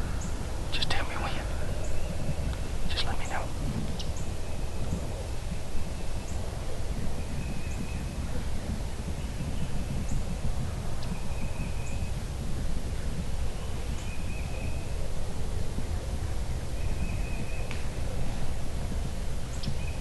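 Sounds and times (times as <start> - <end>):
wind rumble: 0.0 - 20.0.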